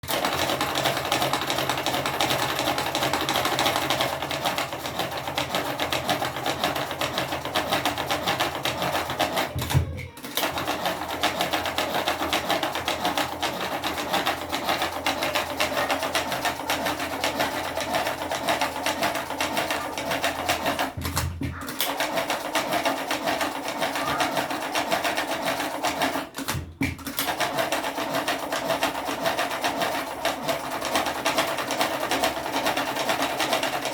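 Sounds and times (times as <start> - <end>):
cigarette rolling machine clattering: 0.1 - 33.9.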